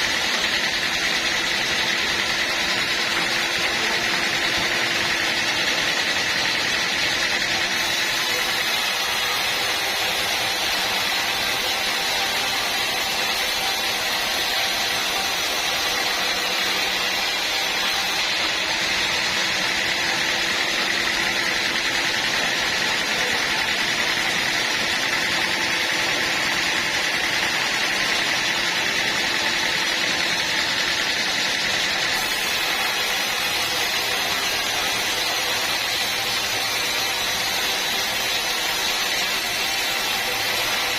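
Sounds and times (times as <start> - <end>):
sawmill sawing log: 0.0 - 40.9.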